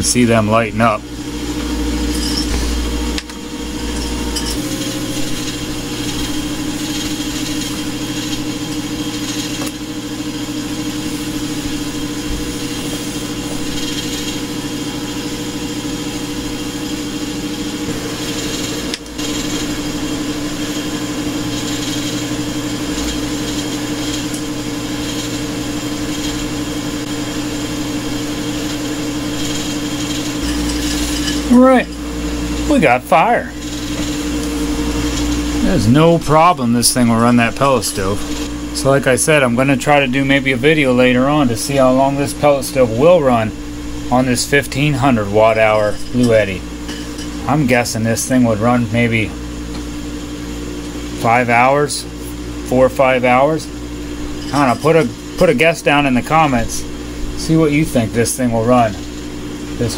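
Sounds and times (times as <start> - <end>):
stove blowers humming: 0.0 - 59.9.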